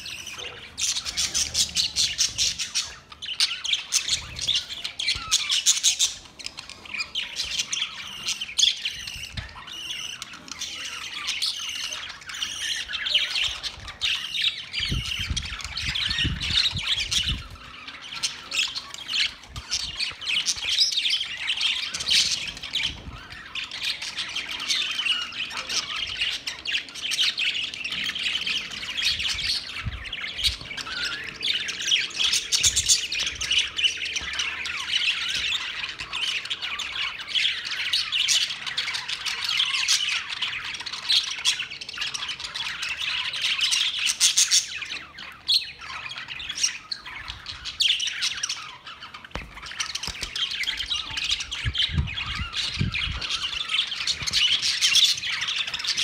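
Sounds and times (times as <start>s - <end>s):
flock of budgerigars chattering: 0.0s - 56.0s.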